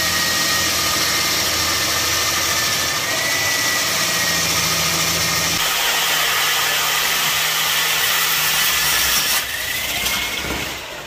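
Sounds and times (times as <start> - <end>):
core drill boring into wall: 0.0 - 11.0.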